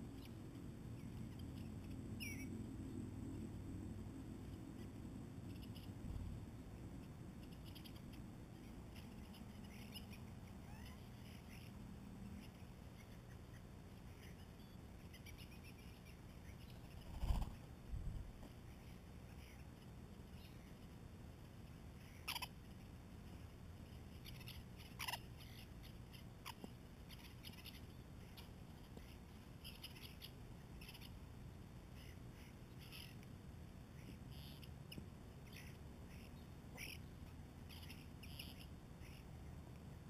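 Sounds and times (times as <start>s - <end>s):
birds chirping: 0.0s - 3.0s, 4.4s - 17.8s, 18.4s - 21.0s, 21.6s - 31.2s, 31.8s - 39.7s
low steady hum: 0.0s - 40.0s.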